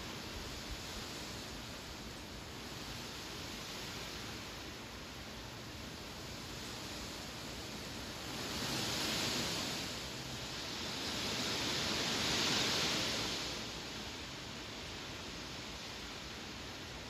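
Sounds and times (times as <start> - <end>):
wind through grass: 0.0 - 17.0.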